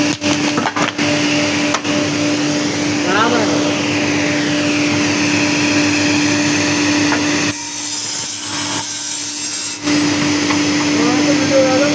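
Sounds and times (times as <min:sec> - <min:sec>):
cutting machine humming: 0:00.0 - 0:11.9.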